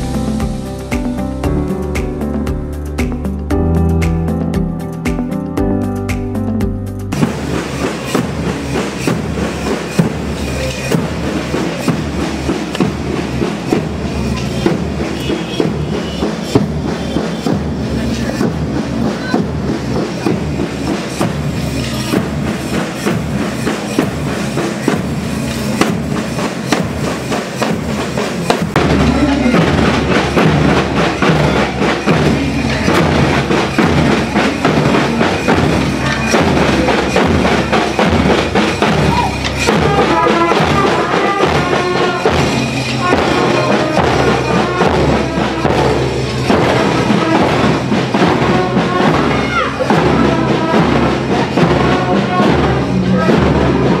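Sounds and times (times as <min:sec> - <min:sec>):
drums beating: 0:00.0 - 0:54.0
marching band playing: 0:00.0 - 0:54.0.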